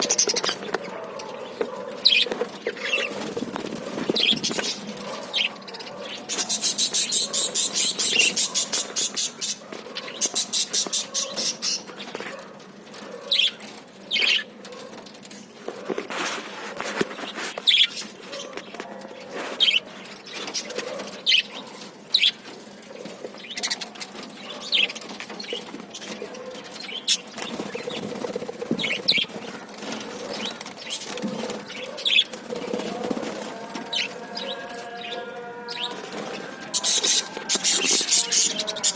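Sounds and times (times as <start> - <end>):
budgerigars chirping and chattering: 0.0 - 15.7, 16.9 - 38.9.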